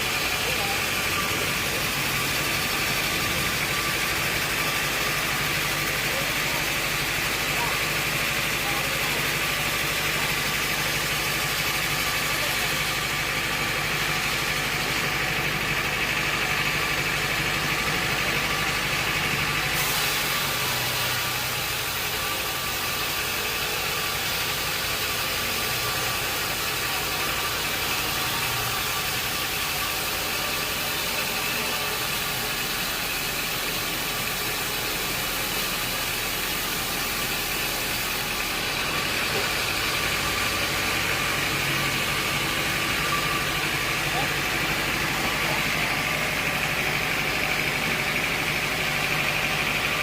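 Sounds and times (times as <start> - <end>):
sawmill machinery drone: 0.0 - 50.0.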